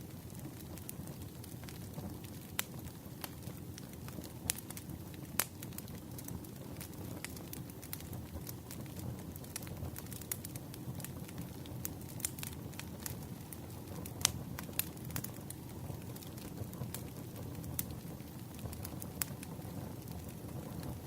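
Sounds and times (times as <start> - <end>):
campfire crackling: 0.0 - 21.0
burning wood popping: 0.2 - 21.0.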